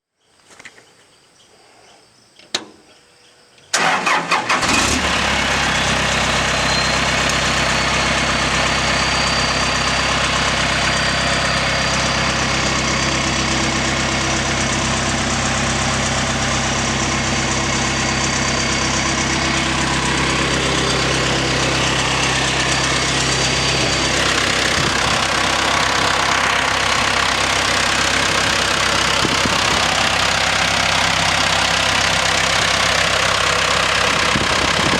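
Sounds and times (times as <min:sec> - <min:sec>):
diesel engine cranking and running: 0:03.6 - 0:34.9.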